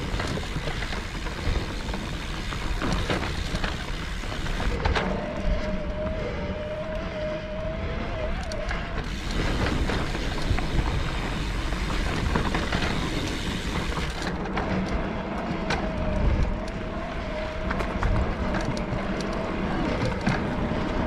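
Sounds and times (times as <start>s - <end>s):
electric bike motor whining: 0.0s - 21.0s
tyres on trail: 0.0s - 21.0s.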